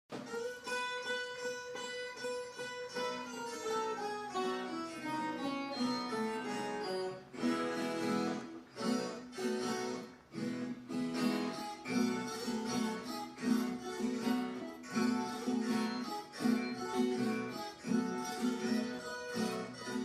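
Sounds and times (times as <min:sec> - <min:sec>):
acoustic guitar music: 0:00.1 - 0:20.0.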